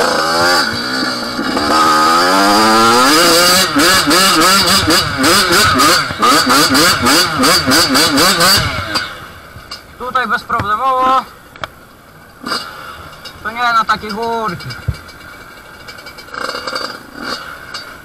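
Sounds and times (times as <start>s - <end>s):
dirt bike engine revving: 0.0s - 11.4s, 12.2s - 18.0s.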